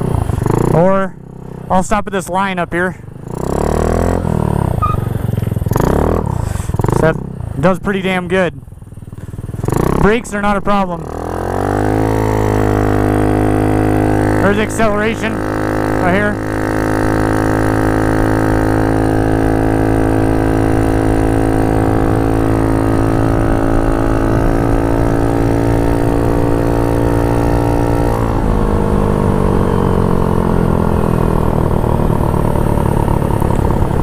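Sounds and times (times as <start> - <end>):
scooter engine accelerating: 0.0 - 34.0.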